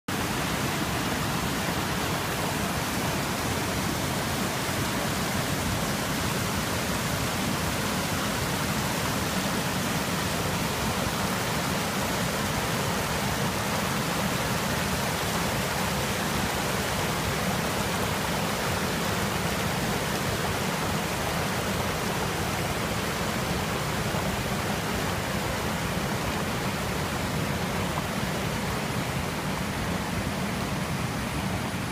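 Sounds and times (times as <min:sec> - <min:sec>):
river water rushing over rocks: 0:00.1 - 0:31.9.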